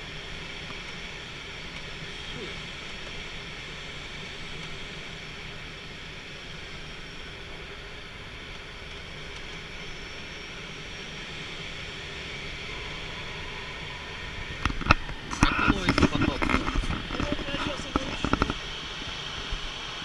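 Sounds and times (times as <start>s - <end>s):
rushing airflow in cockpit: 0.0s - 20.0s.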